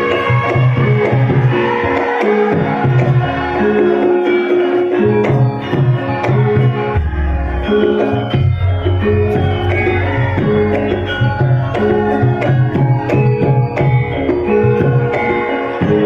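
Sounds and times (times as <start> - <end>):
ringing metallophones and gongs: 0.0 - 16.0.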